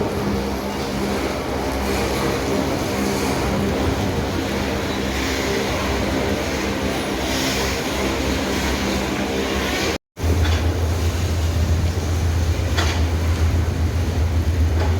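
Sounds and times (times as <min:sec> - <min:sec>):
rain: 0:00.0 - 0:14.9.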